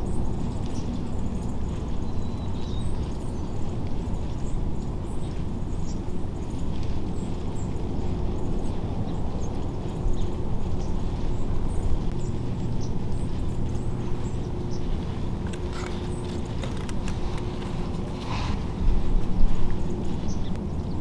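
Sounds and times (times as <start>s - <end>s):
faint hum: 0.0s - 21.0s
steady low rumble: 0.0s - 21.0s.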